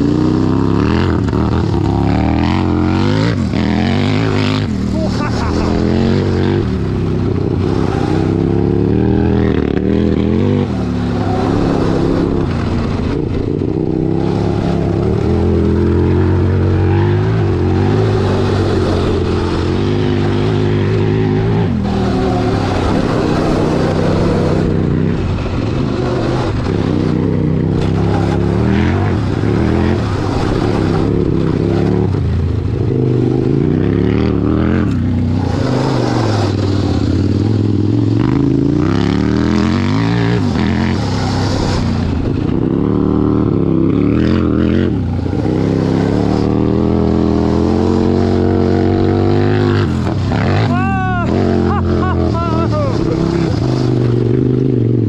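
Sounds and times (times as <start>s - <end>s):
constant rushing noise: 0.0s - 55.0s
small vehicle engine revving: 0.0s - 55.0s.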